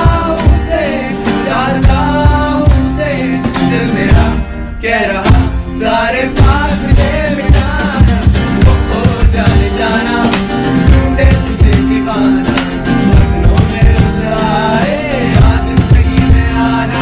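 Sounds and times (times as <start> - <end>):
steady beat: 0.0 - 4.6, 5.2 - 17.0
guitar: 0.0 - 17.0.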